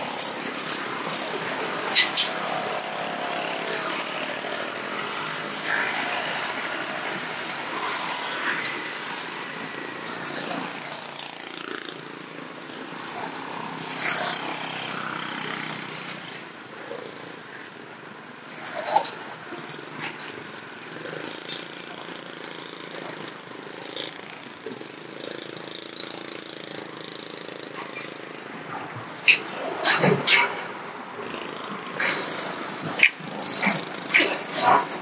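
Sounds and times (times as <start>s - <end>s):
car engines passing: 0.0s - 24.7s, 27.0s - 35.0s
motorcycle engines: 0.0s - 35.0s
tyre noise on road: 0.0s - 35.0s.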